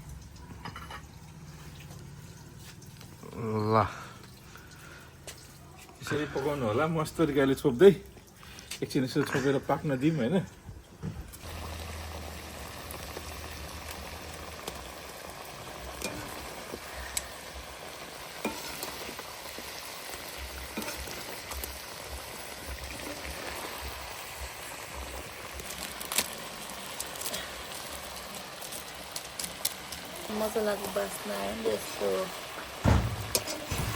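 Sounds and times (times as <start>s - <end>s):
chicken sizzling in a pot: 0.0s - 33.9s.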